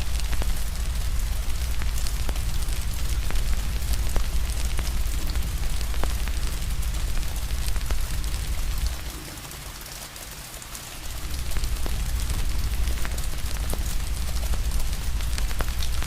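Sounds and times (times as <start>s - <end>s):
deep low rumble: 0.0s - 9.1s, 11.0s - 16.0s
fire crackling and popping: 0.0s - 9.4s, 11.0s - 16.0s
rain hiss: 0.0s - 16.0s.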